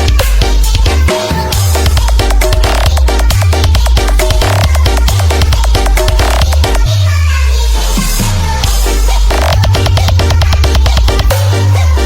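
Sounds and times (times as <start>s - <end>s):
electronic dance music heavy bass: 0.0s - 12.0s.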